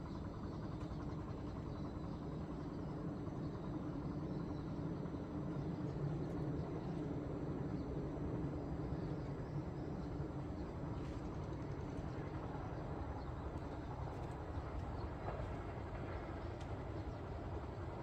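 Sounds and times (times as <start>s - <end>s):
distant train rumble: 0.0s - 18.0s.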